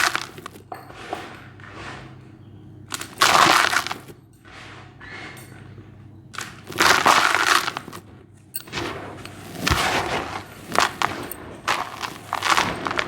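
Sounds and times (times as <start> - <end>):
cement chunks crumbling: 0.0 - 13.0.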